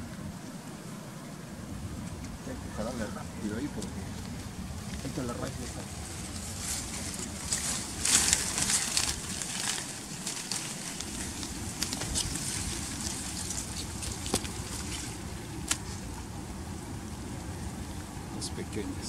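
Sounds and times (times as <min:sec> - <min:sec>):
low steady rumble: 0:00.0 - 0:19.0
water splashing and sloshing: 0:03.3 - 0:18.8.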